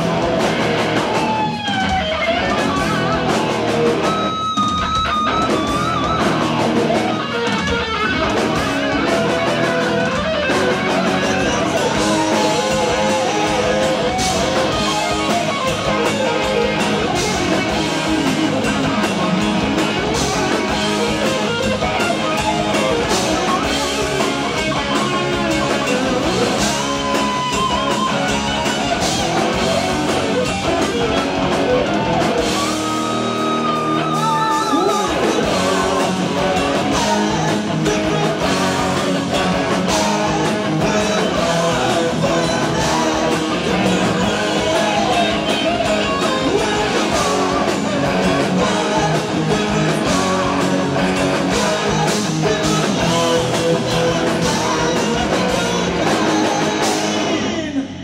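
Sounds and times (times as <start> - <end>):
drums: 0.0 - 58.0
electric guitar solo: 0.0 - 58.0
second electric guitar: 0.0 - 58.0.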